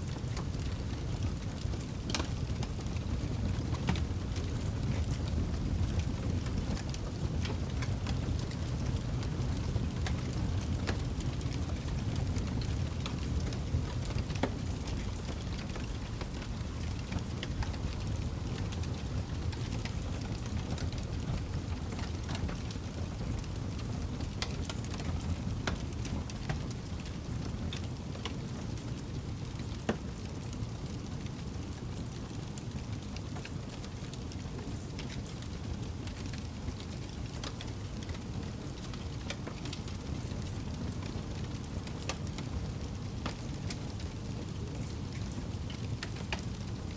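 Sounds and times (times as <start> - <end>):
low rumble of flames: 0.0 - 46.9
wood crackling and popping: 0.0 - 46.9.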